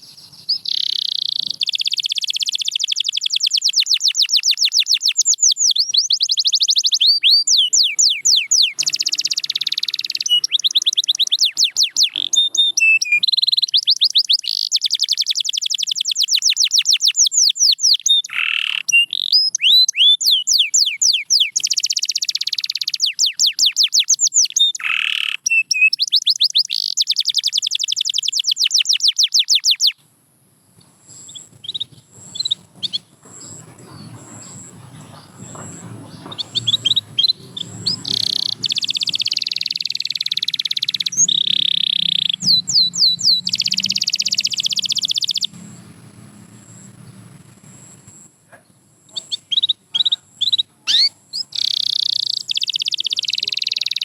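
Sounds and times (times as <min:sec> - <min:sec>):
canary chirps: 0:00.0 - 0:30.0, 0:30.8 - 0:54.0
canary singing trills: 0:00.0 - 0:30.0, 0:30.8 - 0:54.0.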